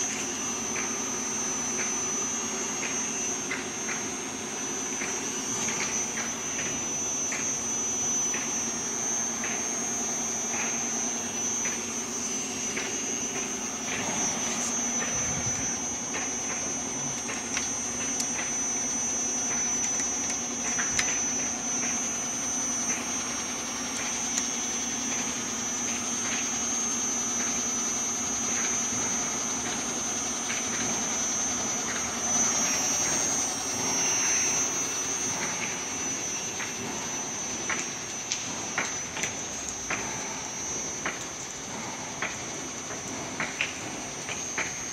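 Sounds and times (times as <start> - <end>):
drill-tapping machine whine: 0.0 - 44.9.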